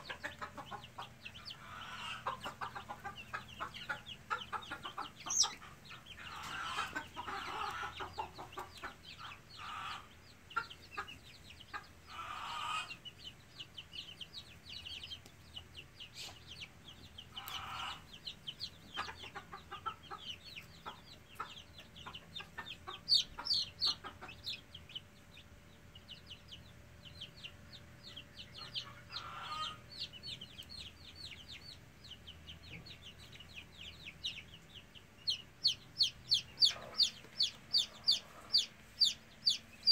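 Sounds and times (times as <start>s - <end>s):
harsh chicken calls: 0.0s - 13.4s, 16.1s - 25.0s, 27.4s - 31.8s, 32.7s - 39.9s
chicks peeping: 0.0s - 39.9s.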